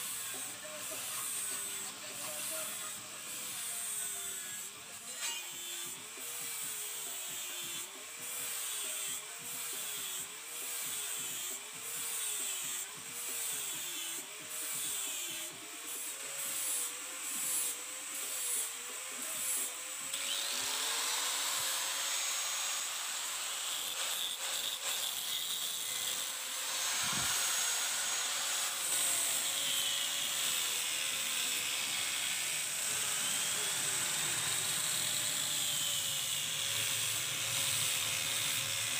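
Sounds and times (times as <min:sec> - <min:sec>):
power tool motor on steel: 0:00.0 - 0:38.9
steady grinding hiss: 0:00.0 - 0:38.9.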